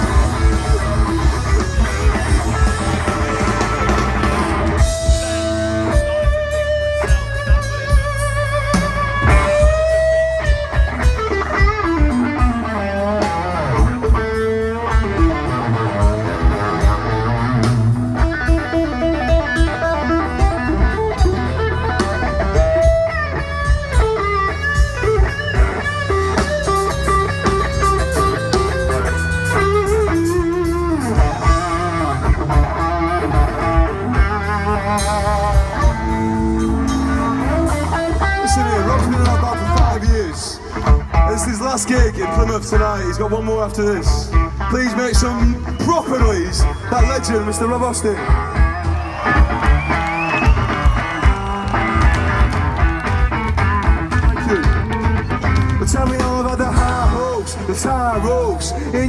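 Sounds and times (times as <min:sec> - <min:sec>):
steady drum beat: 0:00.0 - 0:43.2, 0:44.0 - 0:58.3
bass guitar: 0:00.0 - 0:59.0
electric guitar lead: 0:00.0 - 0:59.0.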